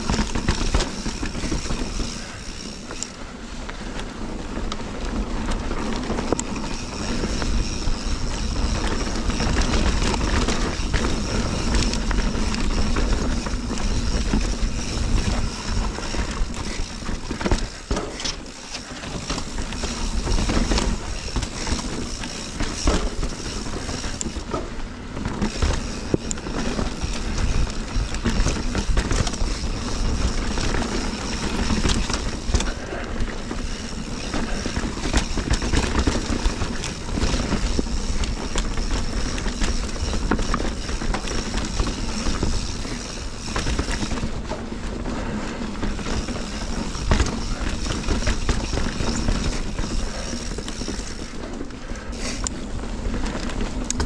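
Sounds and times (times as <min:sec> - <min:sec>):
bike knocking and rattling: 0:00.0 - 0:54.0
tyres rolling on dirt and rock: 0:00.0 - 0:54.0.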